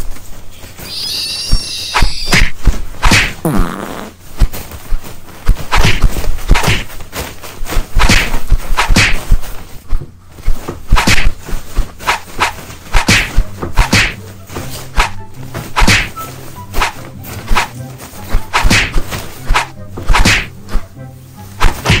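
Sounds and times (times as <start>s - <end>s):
cape being shaken with swish: 0.0s - 22.0s.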